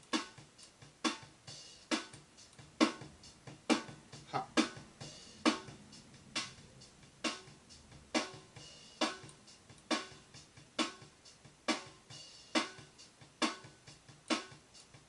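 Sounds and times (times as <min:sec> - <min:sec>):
drum kit playing slow beat: 0:00.0 - 0:15.0.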